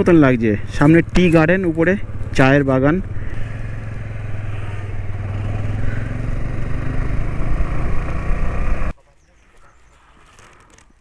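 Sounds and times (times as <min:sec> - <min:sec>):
motorcycle engine cruising: 0:00.0 - 0:09.0
wind and road noise: 0:00.0 - 0:09.0.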